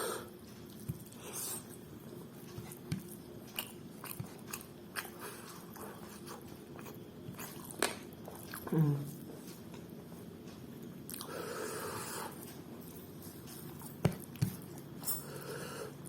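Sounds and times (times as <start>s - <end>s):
person chewing food: 0.0s - 15.6s.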